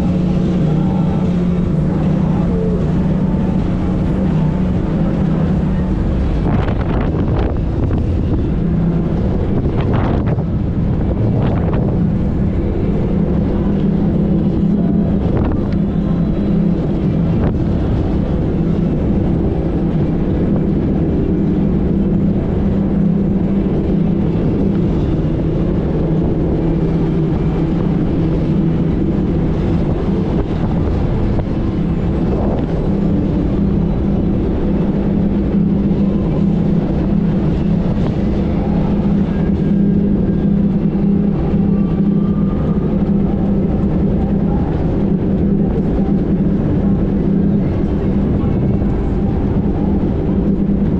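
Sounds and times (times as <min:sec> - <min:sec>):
outboard motor running: 0:00.0 - 0:50.9
wind rushing over microphone: 0:00.0 - 0:50.9.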